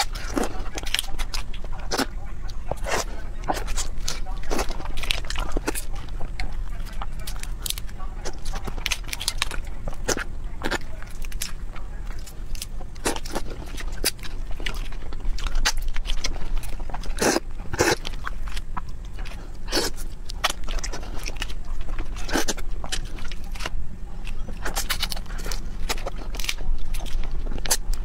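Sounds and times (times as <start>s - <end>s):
shrimp shells crackling and snapping: 0.0s - 28.0s
wet chewing: 0.0s - 28.0s.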